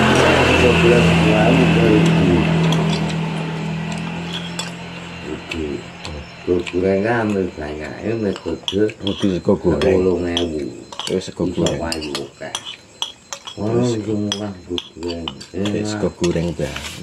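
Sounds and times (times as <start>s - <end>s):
metal spoon scraping bowl: 0.1s - 17.0s.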